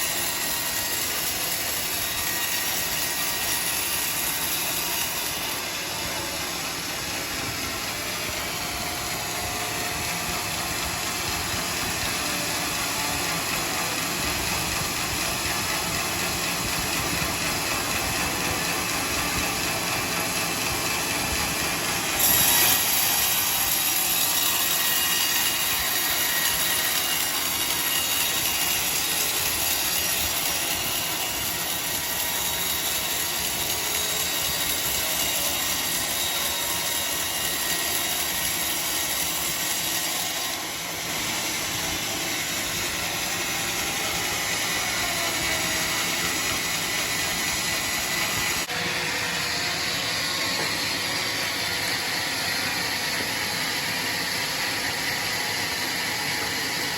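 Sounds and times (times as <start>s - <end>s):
sawmill saw droning: 0.0s - 56.9s.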